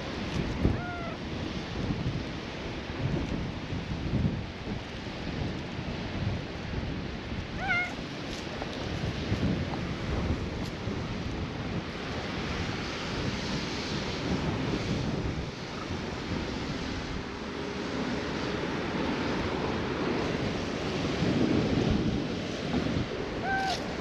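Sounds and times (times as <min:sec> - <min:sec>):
sea surf washing: 0:00.0 - 0:24.0
wind buffeting microphone: 0:00.0 - 0:24.0.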